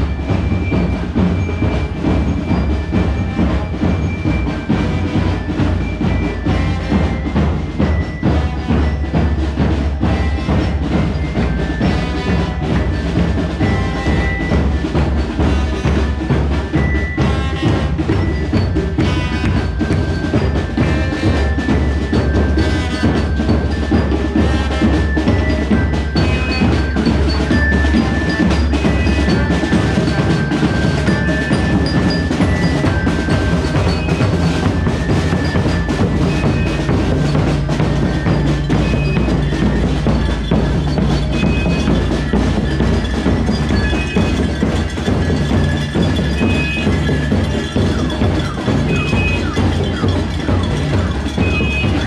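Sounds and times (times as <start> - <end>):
drums: 0.0 - 52.0
glockenspiel bell melody: 0.0 - 52.0.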